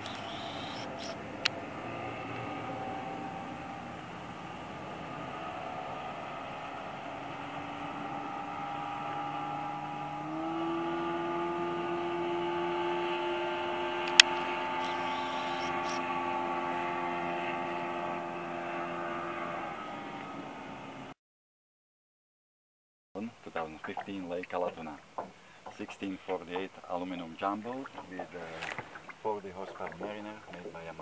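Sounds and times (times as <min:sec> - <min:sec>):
outboard motor running: 0:00.0 - 0:21.1, 0:23.4 - 0:31.0.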